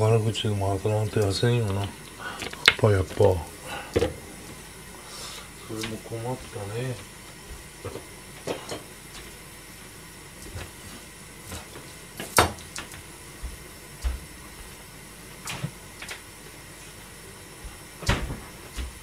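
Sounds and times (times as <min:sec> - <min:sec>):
gas burner hiss: 0:00.0 - 0:19.0.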